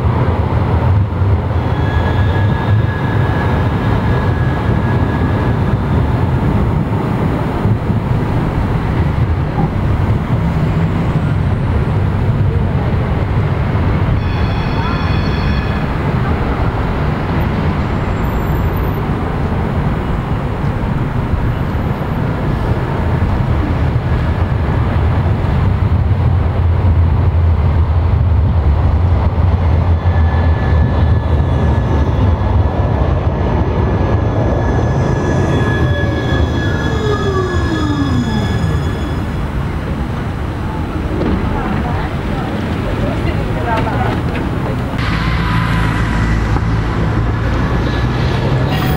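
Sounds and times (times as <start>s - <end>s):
tram wheels rumbling on rail: 0.0s - 48.9s
tram motor whine: 0.1s - 48.9s.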